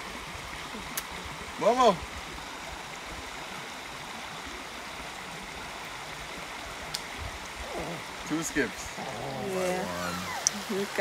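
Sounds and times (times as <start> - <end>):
creek running over rapids: 0.0 - 11.0.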